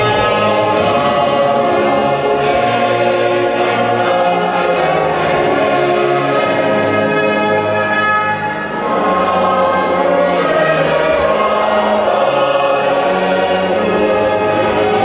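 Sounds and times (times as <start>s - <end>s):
choir singing: 0.0s - 15.0s
orchestra playing: 0.0s - 15.0s.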